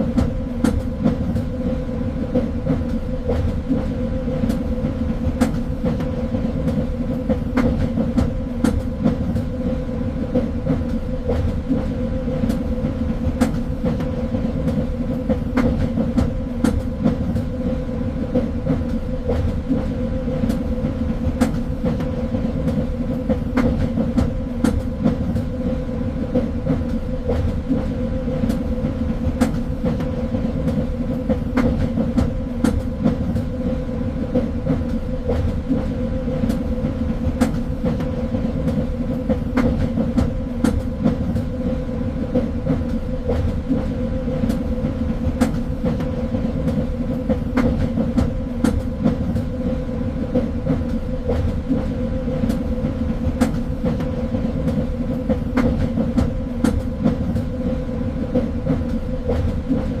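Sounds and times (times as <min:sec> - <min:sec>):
train rumble and hum: 0:00.0 - 1:00.0.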